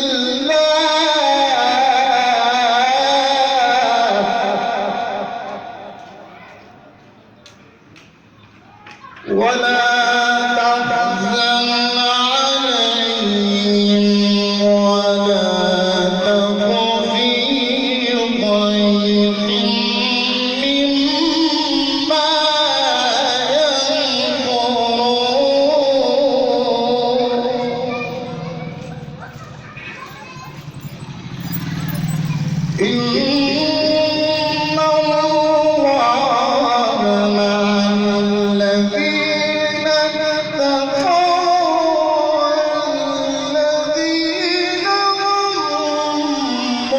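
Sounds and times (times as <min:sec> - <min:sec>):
man reciting melodically: 0:00.0 - 0:06.6, 0:09.2 - 0:29.2, 0:31.0 - 0:46.9.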